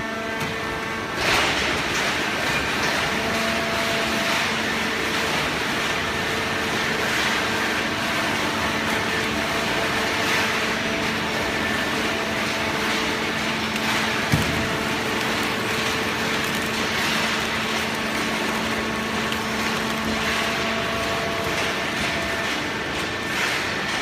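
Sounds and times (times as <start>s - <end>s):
hydraulic baling press running: 0.1s - 24.0s.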